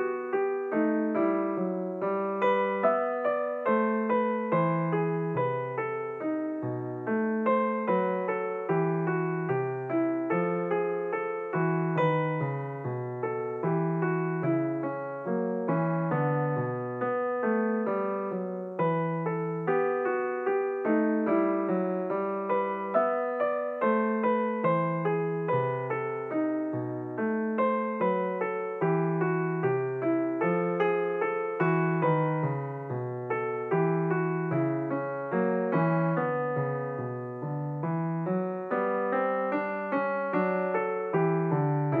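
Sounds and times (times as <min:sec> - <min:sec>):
solo piano music: 0:00.0 - 0:42.0.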